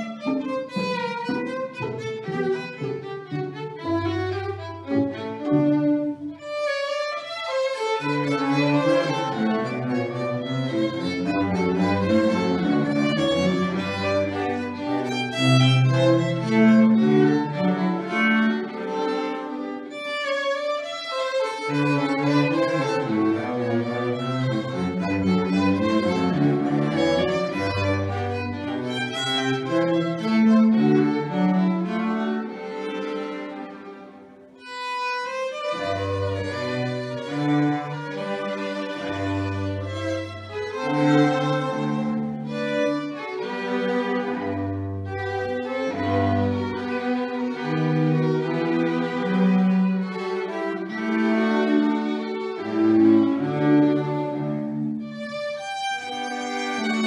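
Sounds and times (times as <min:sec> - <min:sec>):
string quartet playing: 0:00.0 - 0:57.0.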